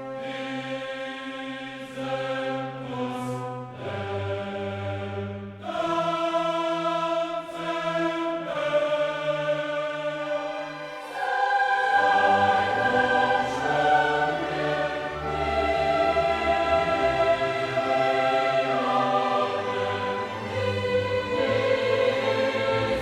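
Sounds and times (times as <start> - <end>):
choir holding long chords: 0.0 - 23.0
orchestra: 0.0 - 23.0.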